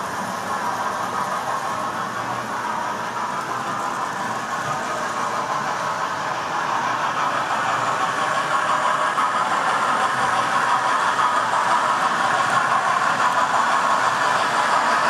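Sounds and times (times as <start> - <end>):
model trains running on track: 0.0 - 15.0.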